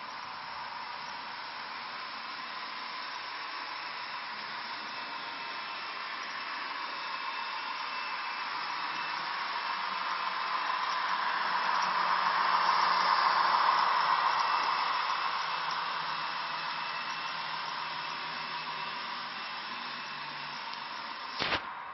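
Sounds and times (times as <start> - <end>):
model train running: 0.0 - 21.8.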